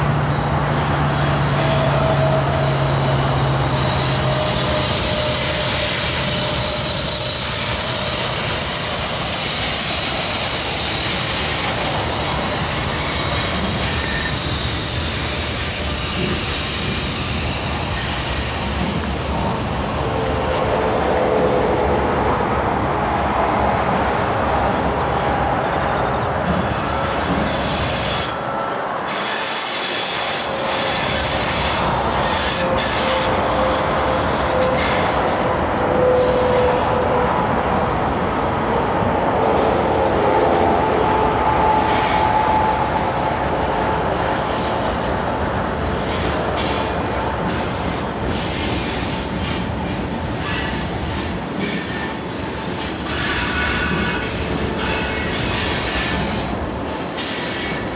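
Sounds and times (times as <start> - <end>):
train rolling noise: 0.0 - 57.9
train wheels squealing on rails: 0.0 - 57.9.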